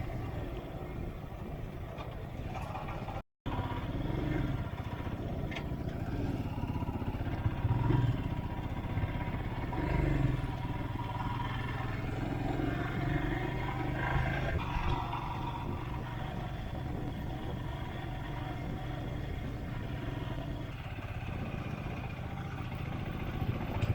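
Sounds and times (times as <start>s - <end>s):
motorcycle engine running: 0.0s - 23.9s
wind buffeting microphone: 4.0s - 23.9s.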